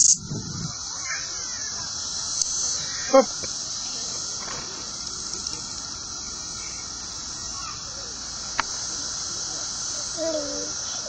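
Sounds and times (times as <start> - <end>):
cicada chorus drone: 0.0 - 11.0.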